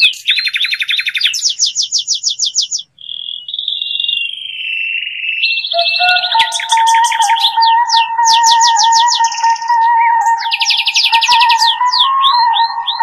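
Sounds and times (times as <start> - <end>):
birds chirping and trilling: 0.0 - 13.0.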